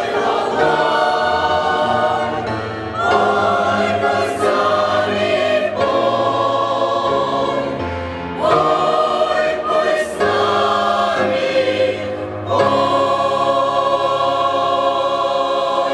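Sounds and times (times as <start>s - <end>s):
choir singing a hymn: 0.0s - 15.9s.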